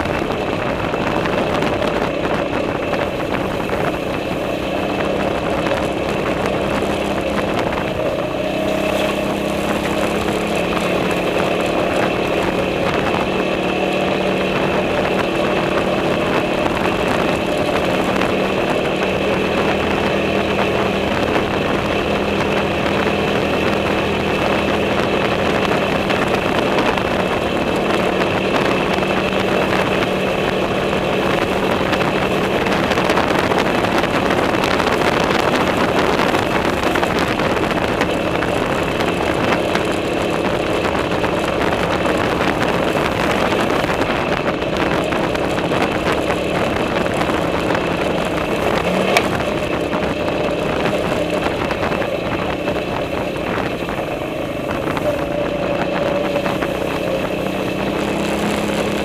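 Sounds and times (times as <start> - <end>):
quad bike engine droning: 0.0 - 59.0.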